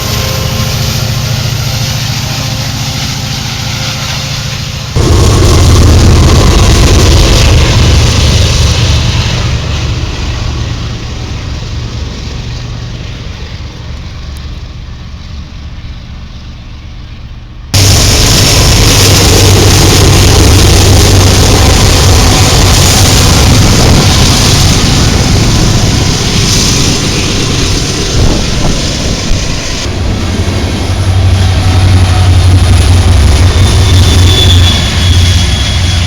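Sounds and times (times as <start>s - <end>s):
diesel locomotive engines running hard: 0.0s - 36.0s.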